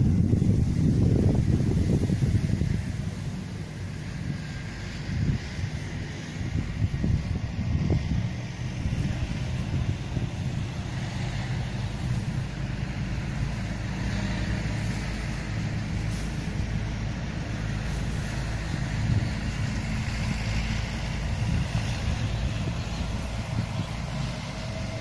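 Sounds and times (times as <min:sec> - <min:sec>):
low mechanical hum: 0:00.0 - 0:25.0
rushing noise: 0:00.0 - 0:25.0.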